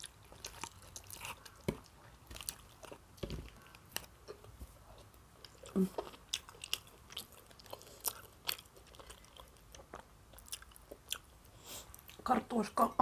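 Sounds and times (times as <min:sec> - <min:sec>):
chewing salad: 0:00.0 - 0:12.3.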